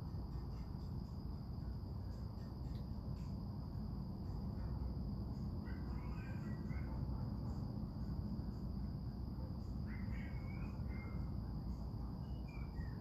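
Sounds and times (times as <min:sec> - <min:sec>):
crickets trilling: 0:00.0 - 0:13.0
faint chirping calls: 0:00.0 - 0:13.0
low steady rumble: 0:00.0 - 0:13.0.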